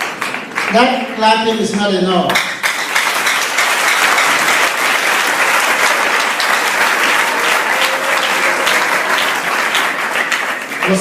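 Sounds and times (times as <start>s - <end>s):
crowd applauding: 0.0s - 1.6s, 2.4s - 11.0s.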